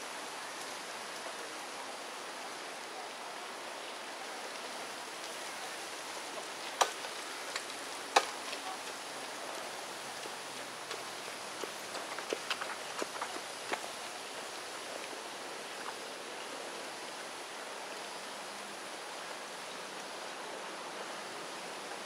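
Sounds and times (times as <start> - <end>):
forest background hiss: 0.0 - 22.0.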